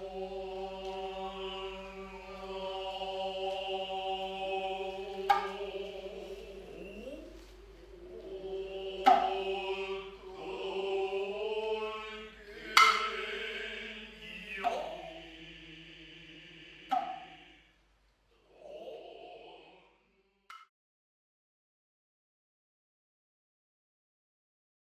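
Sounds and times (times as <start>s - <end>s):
voices chanting long held tones: 0.0s - 20.4s.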